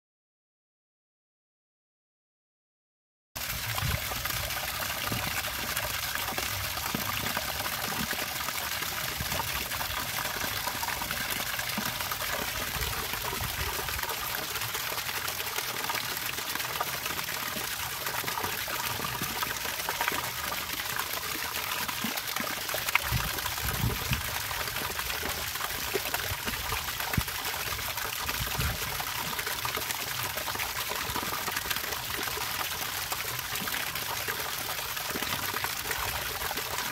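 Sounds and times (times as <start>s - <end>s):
water trickling and splashing: 3.4s - 36.9s.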